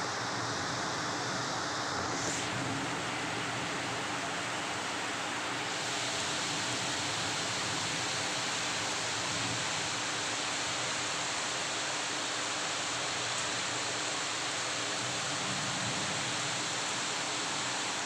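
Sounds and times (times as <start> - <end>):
rain falling steadily: 0.0 - 18.0.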